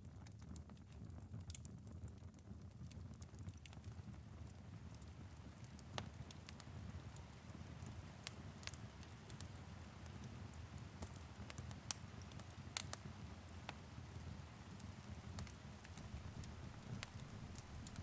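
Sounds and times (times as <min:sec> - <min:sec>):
light rain on a window: 0:00.0 - 0:18.0
wood fire crackling: 0:00.1 - 0:18.0.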